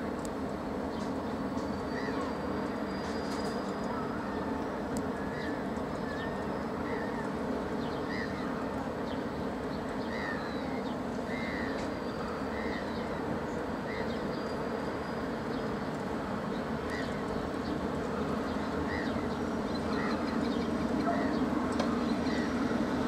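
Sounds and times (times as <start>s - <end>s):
ship engine drone: 0.0s - 23.0s
gulls calling: 1.9s - 8.9s, 10.1s - 15.4s, 16.6s - 23.0s.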